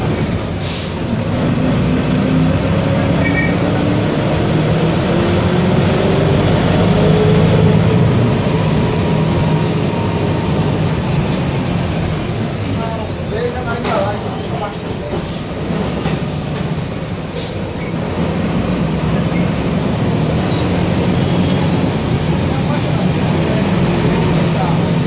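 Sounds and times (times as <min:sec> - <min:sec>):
bus diesel engine accelerating: 0:00.0 - 0:25.0.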